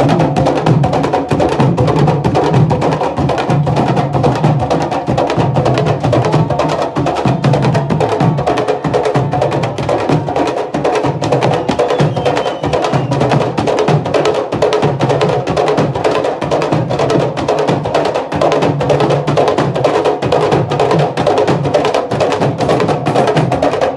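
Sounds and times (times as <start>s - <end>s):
drums played fast with hands and sticks: 0.0s - 23.9s.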